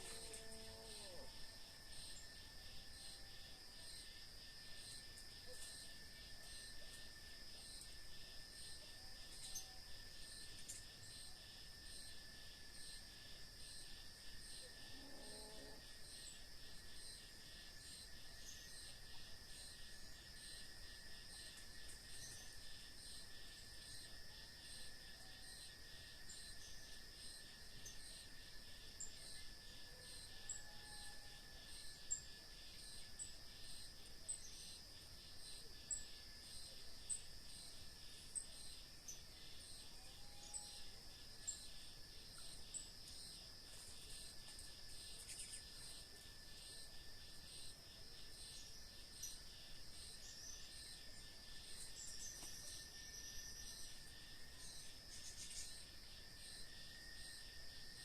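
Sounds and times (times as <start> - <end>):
continuous thin insect whine: 0.0 - 58.0
crickets trilling: 0.0 - 58.0.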